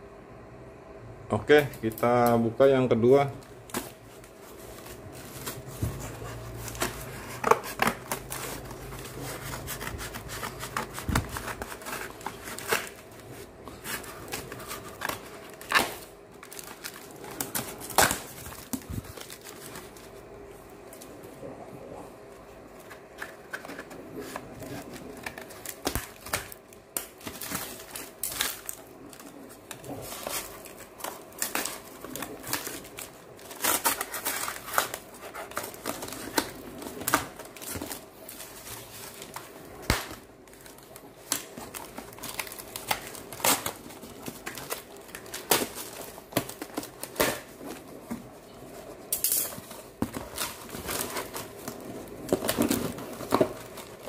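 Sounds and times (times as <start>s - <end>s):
cardboard ripping and crinkling: 3.2s - 20.2s, 22.8s - 54.0s.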